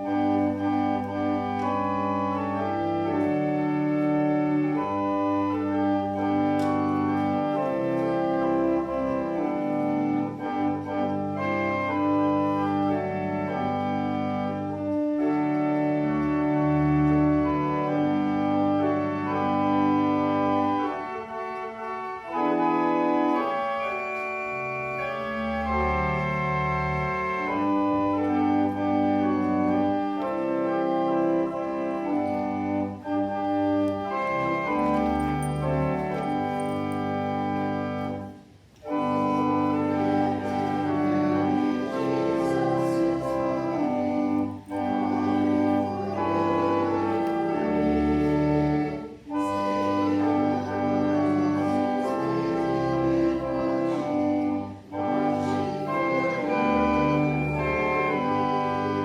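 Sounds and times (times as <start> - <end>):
church organ playing hymn: 0.0 - 59.0.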